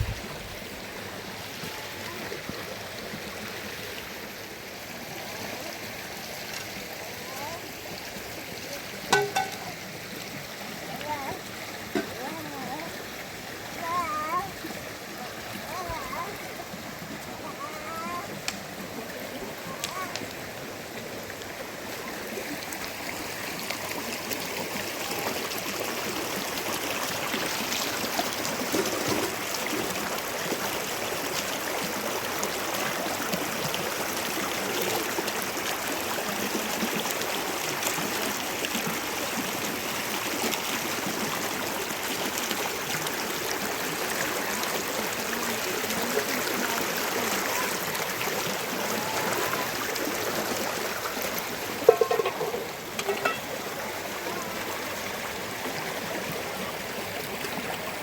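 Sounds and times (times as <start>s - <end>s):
water rushing and spattering: 0.0s - 58.0s.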